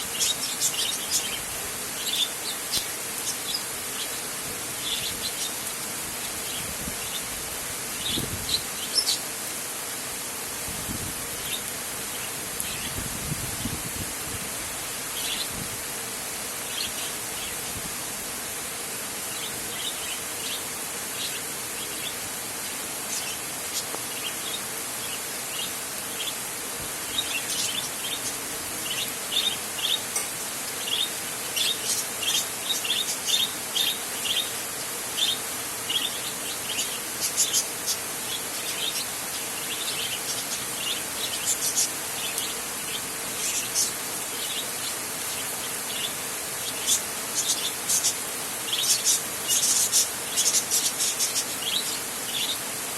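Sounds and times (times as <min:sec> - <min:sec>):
rain on a tin roof: 0:00.0 - 0:52.9.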